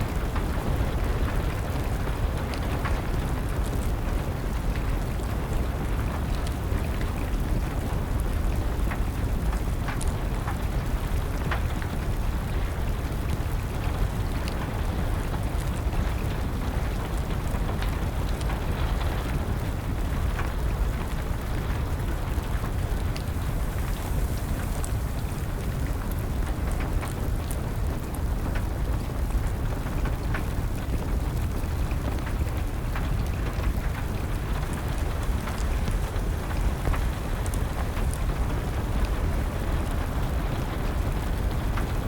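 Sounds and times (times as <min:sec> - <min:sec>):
steady rain: 0:00.0 - 0:42.0
wood fire crackling: 0:00.0 - 0:42.0.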